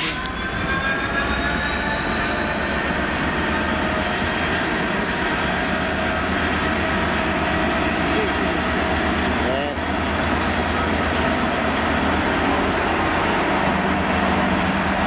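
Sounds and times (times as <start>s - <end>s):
diesel locomotive engine whine: 0.0s - 15.0s
freight wagons rumbling on rails: 0.0s - 15.0s.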